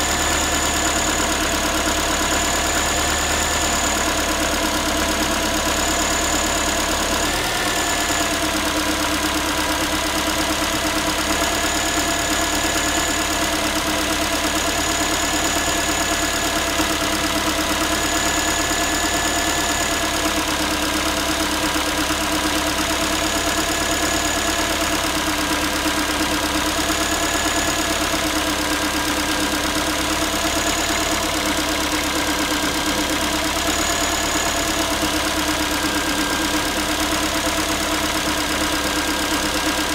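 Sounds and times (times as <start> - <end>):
car engine idling: 0.0 - 39.9
metallic engine knocking: 0.0 - 39.9.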